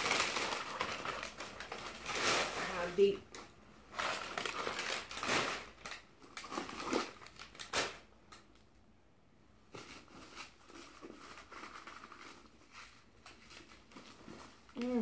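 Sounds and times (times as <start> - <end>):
packing stuffing crinkling and rustling: 0.0 - 8.5, 9.7 - 15.0.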